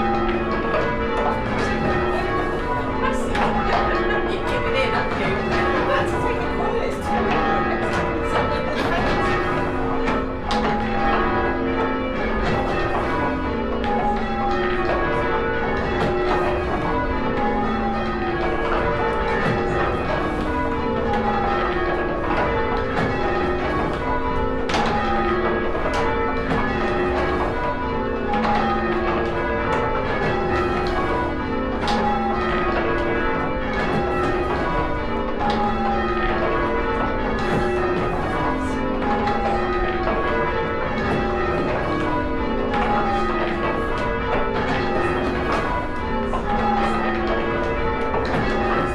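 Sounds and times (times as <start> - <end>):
church bells change ringing: 0.0 - 48.9.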